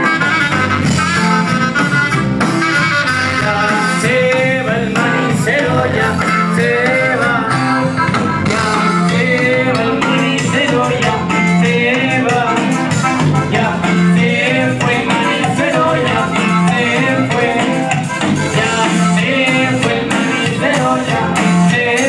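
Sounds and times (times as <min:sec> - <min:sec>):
live band playing latin dance music: 0:00.0 - 0:22.0
person singing: 0:03.4 - 0:22.0.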